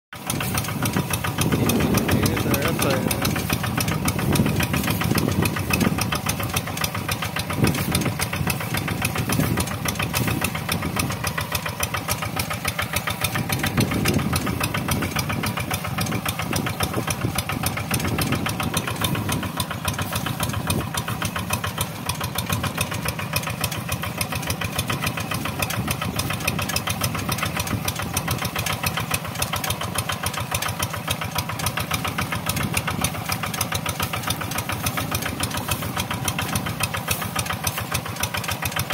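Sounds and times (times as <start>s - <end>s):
diesel engine chugging: 0.1s - 38.9s.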